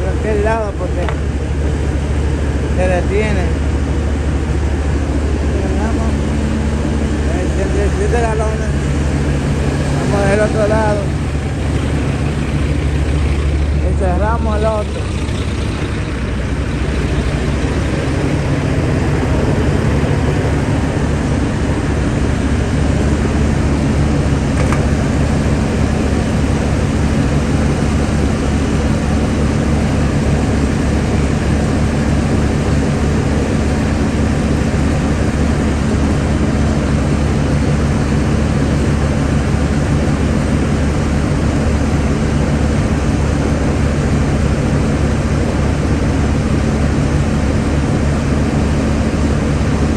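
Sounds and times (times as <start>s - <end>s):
truck diesel engine idling: 0.0s - 49.9s.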